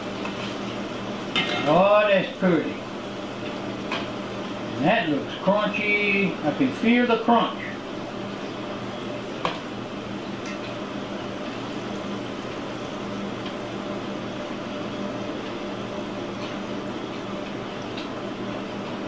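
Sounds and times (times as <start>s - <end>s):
deep-frying sizzle and bubbling: 0.0s - 19.0s.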